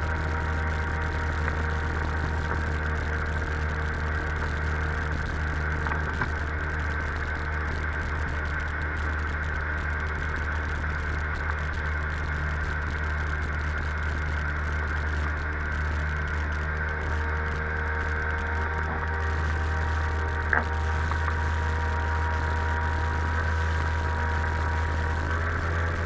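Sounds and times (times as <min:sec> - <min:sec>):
jet ski engine running: 0:00.0 - 0:26.0.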